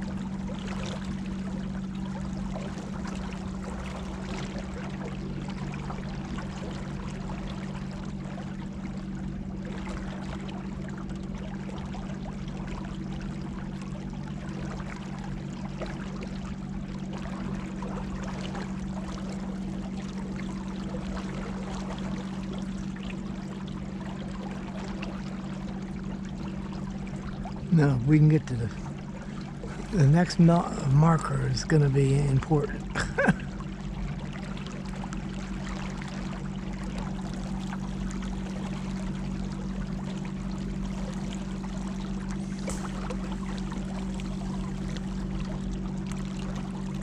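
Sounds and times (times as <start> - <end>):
electric boat motor humming: 0.0 - 47.0
water splashing along hull: 0.0 - 47.0.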